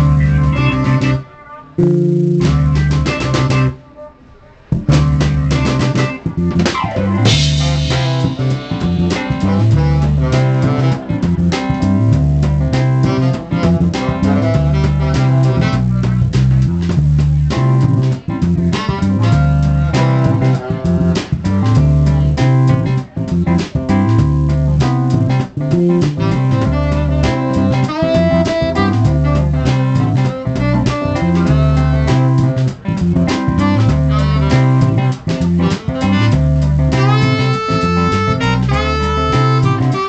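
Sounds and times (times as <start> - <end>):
repeating bass line: 0.0 - 3.8, 4.7 - 40.0
drum kit: 0.0 - 40.0
electric guitar: 0.0 - 40.0
keyboard: 0.0 - 40.0
saxophone: 0.0 - 40.0.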